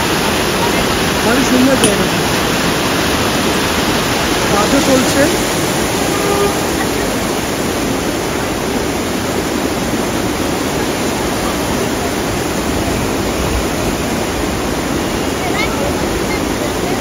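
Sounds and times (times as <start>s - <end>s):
waterfall rushing and splashing: 0.0s - 17.0s.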